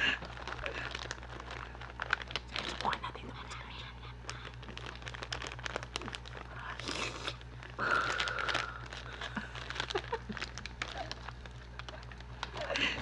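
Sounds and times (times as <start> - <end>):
chips crunching: 0.0 - 13.0
foil bag crinkling: 0.0 - 13.0.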